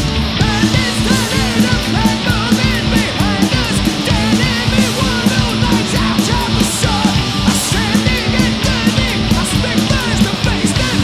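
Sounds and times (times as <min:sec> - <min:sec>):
heavy metal music: 0:00.0 - 0:11.0.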